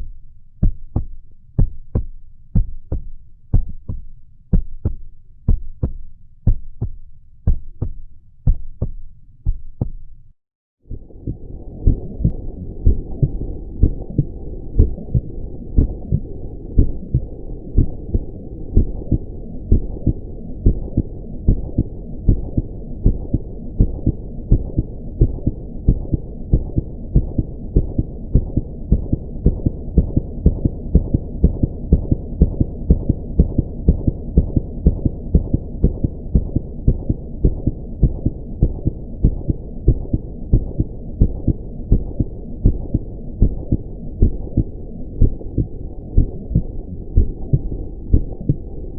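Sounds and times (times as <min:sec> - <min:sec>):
heartbeat thumps speeding up: 0:00.0 - 0:10.1, 0:10.9 - 0:48.8
continuous low rumble: 0:00.0 - 0:48.9.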